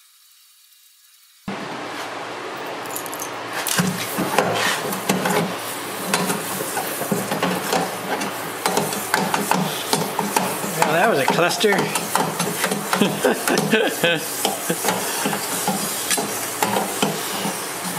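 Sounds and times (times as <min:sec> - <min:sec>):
oil sizzling and crackling: 0:00.0 - 0:17.9.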